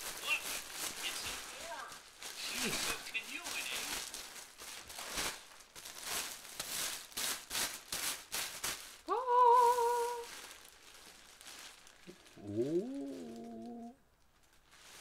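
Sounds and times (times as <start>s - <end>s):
plastic bag and bubble wrap crinkling: 0.0s - 15.0s.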